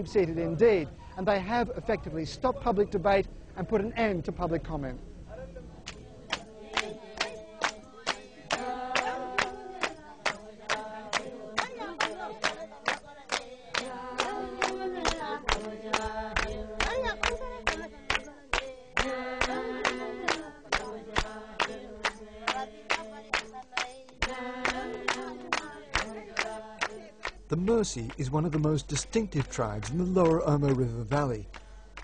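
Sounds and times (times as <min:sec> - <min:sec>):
voices chanting together: 0:05.6 - 0:30.8, 0:31.4 - 0:32.0.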